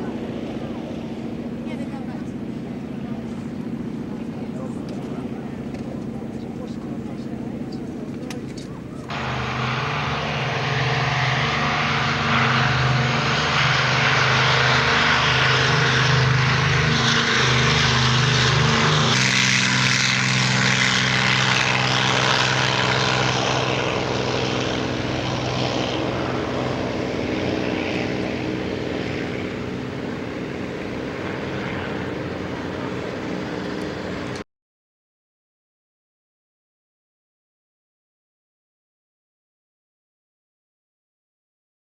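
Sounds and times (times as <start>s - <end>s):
propeller aircraft flying past: 0.0s - 34.4s.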